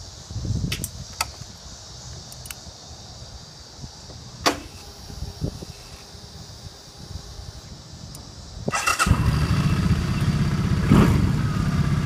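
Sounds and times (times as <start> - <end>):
insects hissing: 0.0 - 10.1.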